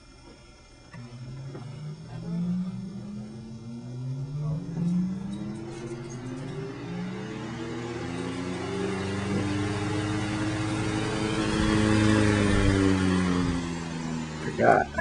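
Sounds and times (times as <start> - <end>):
electric fan motor hum and whir: 0.0 - 15.0.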